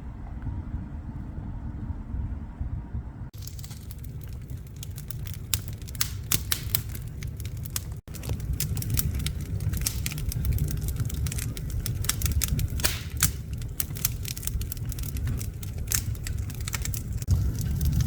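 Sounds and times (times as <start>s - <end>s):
low rumble of fire: 0.0s - 18.0s
wood fire crackling and popping: 3.3s - 18.0s.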